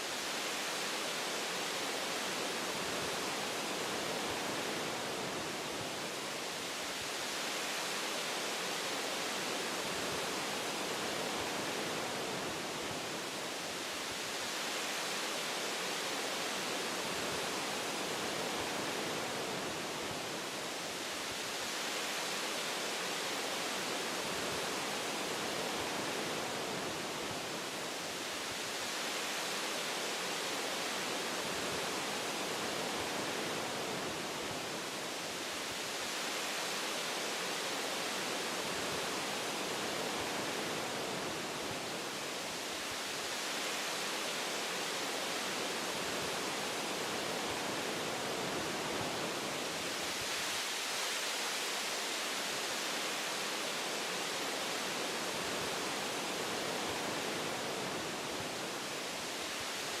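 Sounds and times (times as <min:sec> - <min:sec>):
wind through tree branches: 0:00.0 - 1:00.0.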